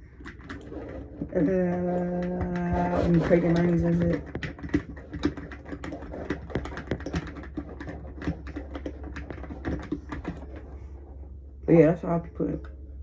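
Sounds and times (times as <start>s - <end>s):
mechanical keyboard clacking: 0.2s - 10.7s.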